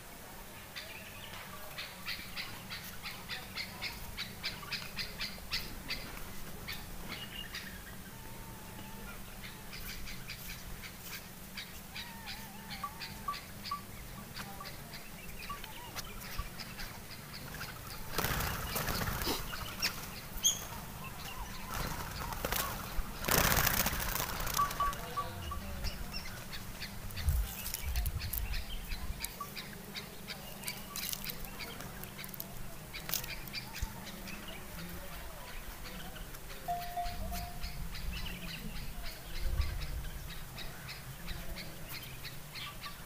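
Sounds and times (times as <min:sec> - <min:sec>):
birds calling and chirping: 0:00.0 - 0:43.0.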